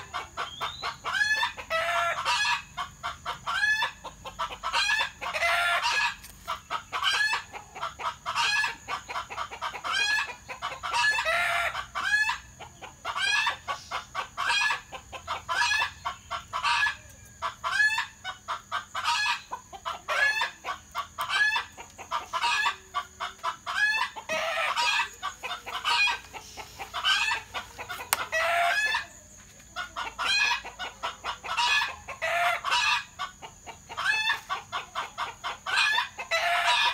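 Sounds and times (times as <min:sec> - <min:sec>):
chickens clucking: 0:00.0 - 0:36.9.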